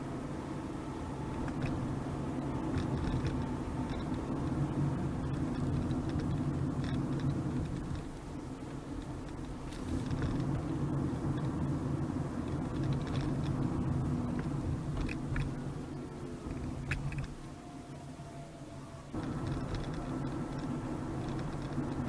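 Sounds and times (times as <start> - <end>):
car engine drone: 0.0 - 22.0
road and tyre noise: 0.0 - 22.0.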